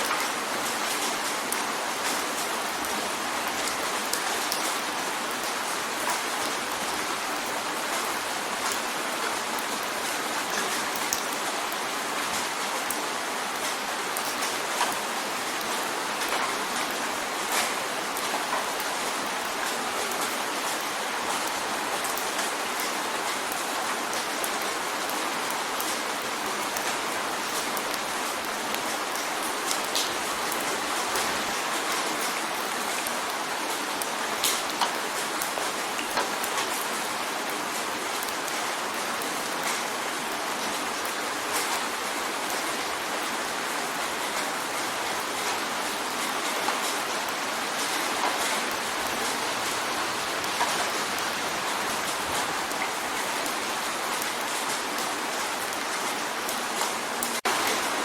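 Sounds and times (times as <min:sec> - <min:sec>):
rain drumming on a window: 0:00.0 - 0:58.0.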